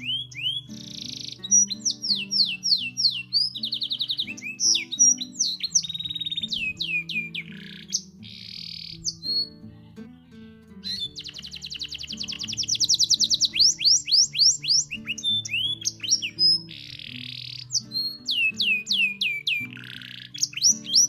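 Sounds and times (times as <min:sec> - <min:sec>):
canary singing: 0:00.0 - 0:21.0
soft background music: 0:00.0 - 0:21.0.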